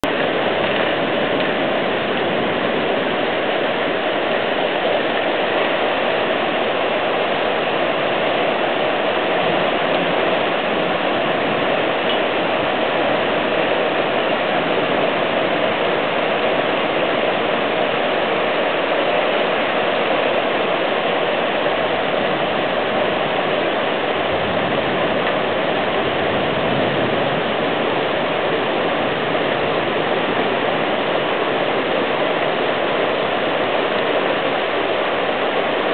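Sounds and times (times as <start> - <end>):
floodwater rushing: 0.0 - 35.9.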